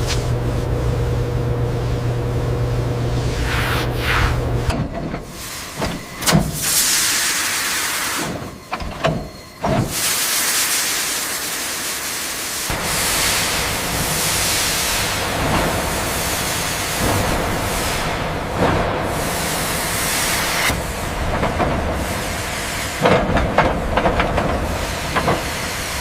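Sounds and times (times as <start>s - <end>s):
steam hissing: 3.2s - 8.7s, 9.6s - 26.0s.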